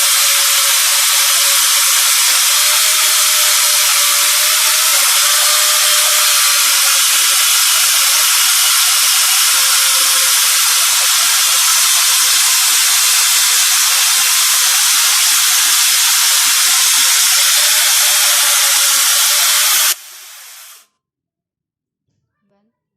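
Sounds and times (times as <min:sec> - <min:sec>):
angle grinder chainsaw running: 0:00.0 - 0:20.0.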